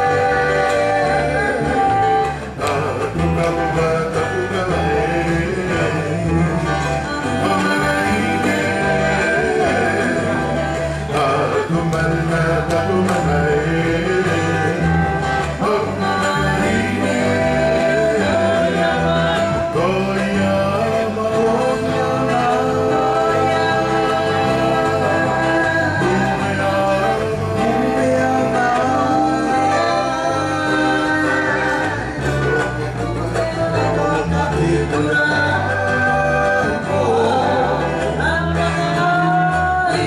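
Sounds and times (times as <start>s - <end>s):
steady bass line: 0.0s - 40.0s
voices singing with guitar: 0.0s - 40.0s.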